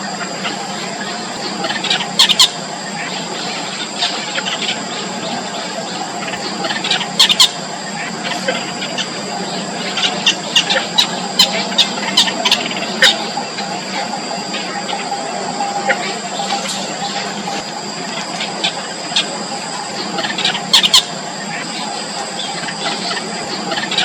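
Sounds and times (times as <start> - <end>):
steady high-pitched tones: 0.0 - 24.0
nestlings squealing begging calls: 0.4 - 24.0.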